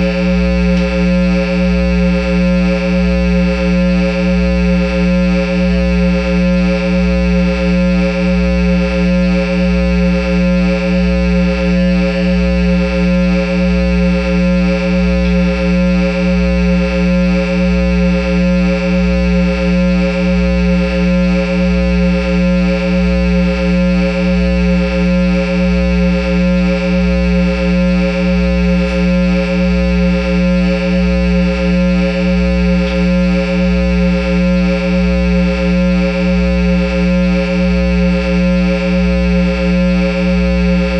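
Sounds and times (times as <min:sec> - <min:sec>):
amplifier droning hum: 0:00.0 - 0:40.9.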